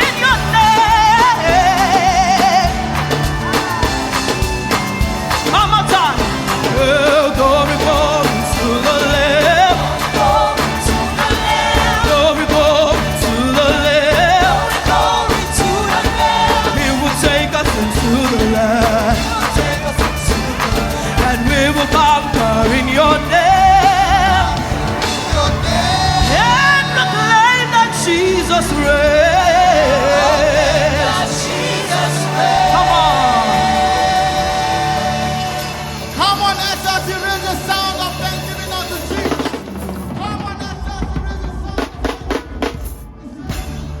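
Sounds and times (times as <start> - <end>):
person singing with vibrato: 0.0 - 36.3
band with drums: 0.0 - 44.0.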